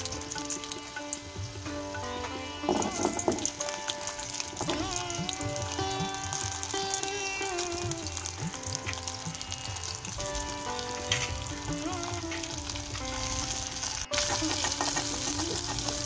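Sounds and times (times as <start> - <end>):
food sizzling in oil: 0.0 - 16.0
instrumental music: 0.0 - 16.0.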